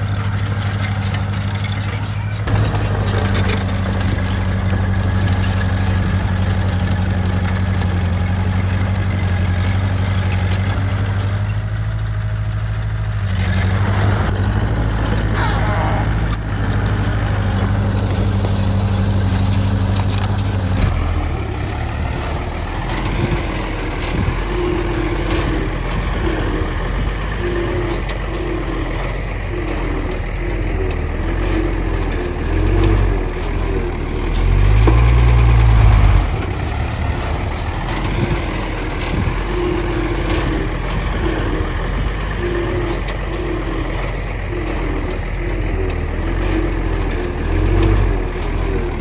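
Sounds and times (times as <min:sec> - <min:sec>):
diesel bulldozer engine: 0:00.0 - 0:49.0
metallic clanking and rattling: 0:00.0 - 0:49.0.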